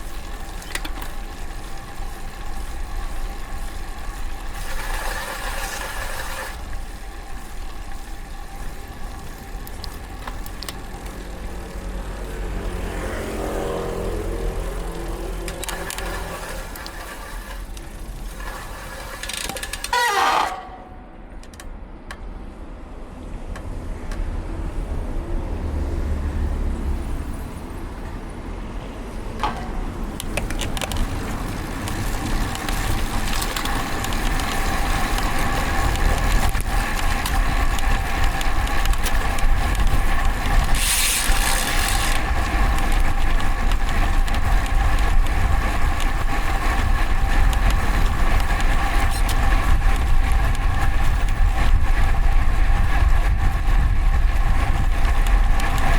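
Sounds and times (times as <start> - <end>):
low road rumble: 0.0 - 55.9
motor vehicle hum: 0.0 - 55.9.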